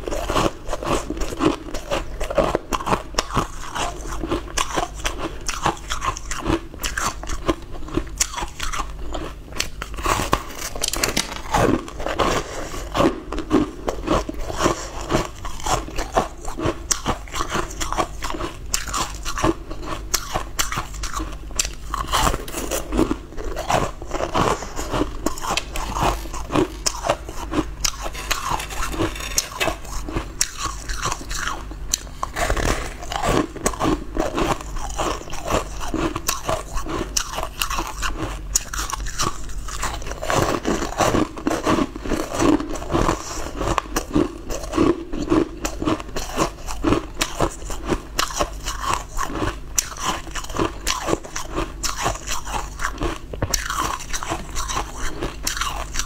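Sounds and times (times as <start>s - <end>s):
crunching and chewing ice pops: 0.0s - 56.0s.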